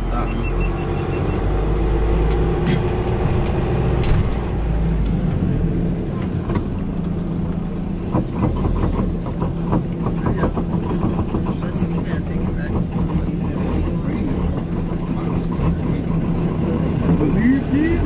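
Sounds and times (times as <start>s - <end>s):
minibus engine and road rumble: 0.0s - 18.0s.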